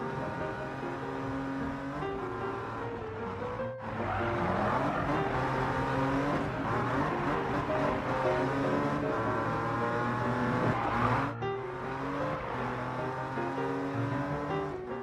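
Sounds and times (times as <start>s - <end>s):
cartoon car engine revving: 0.0s - 15.0s.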